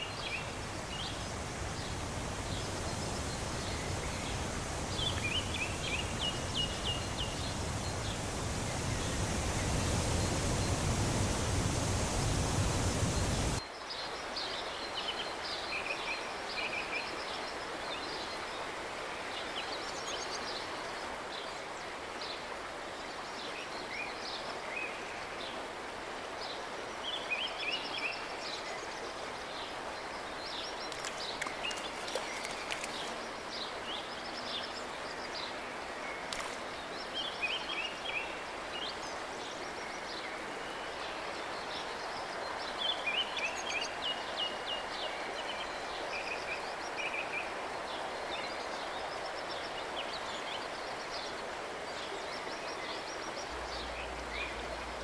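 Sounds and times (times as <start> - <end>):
loud rush of water: 0.0 - 55.0
river flowing: 0.0 - 55.0.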